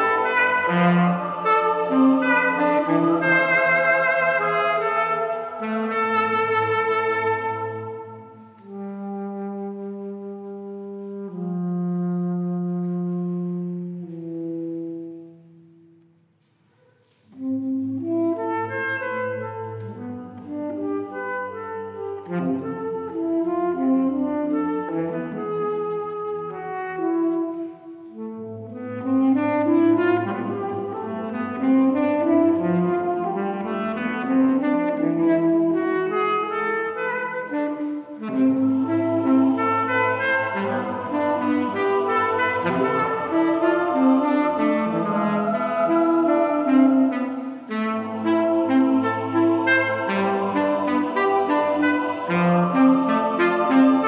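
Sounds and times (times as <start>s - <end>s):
tenor saxophone playing: 0.0s - 15.1s, 17.4s - 54.0s.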